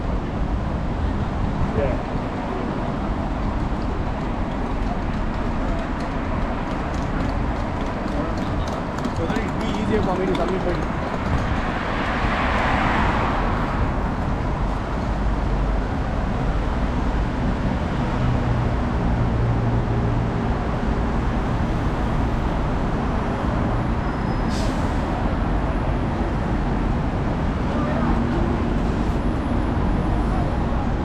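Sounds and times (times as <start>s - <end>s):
cars and buses rumbling past: 0.0s - 31.0s.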